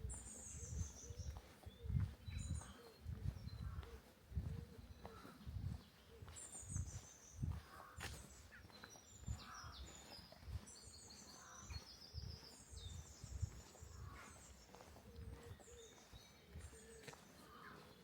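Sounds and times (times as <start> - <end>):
songbirds trilling: 0.0 - 18.0
footsteps walking: 0.7 - 18.0.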